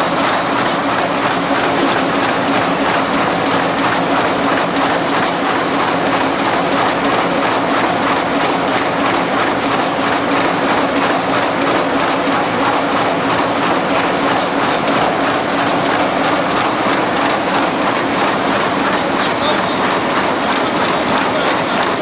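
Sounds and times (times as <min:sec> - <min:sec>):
sewing machine clattering: 0:00.0 - 0:22.0.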